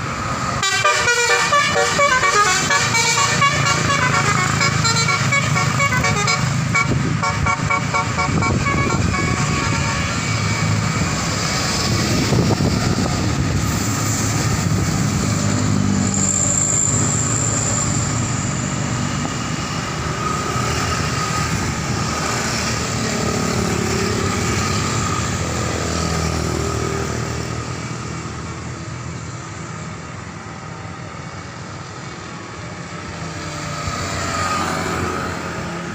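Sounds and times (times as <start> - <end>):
buses driving past: 0.0 - 35.9.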